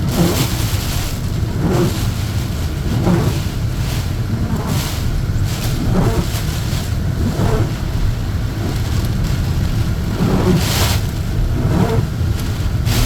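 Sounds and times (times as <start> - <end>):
rushing wind and rain: 0.0 - 13.0
truck road and engine rumble: 0.0 - 13.0.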